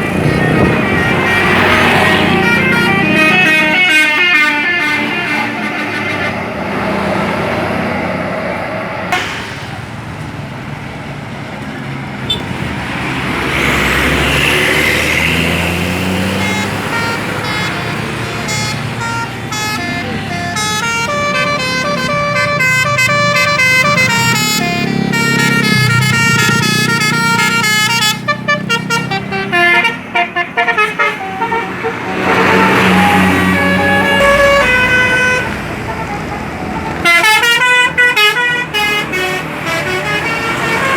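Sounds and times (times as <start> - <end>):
bus horn playing a tune: 0.0 - 7.4, 12.3 - 12.6, 15.4 - 40.9
bus engine: 0.0 - 40.9
traffic noise: 0.0 - 40.9.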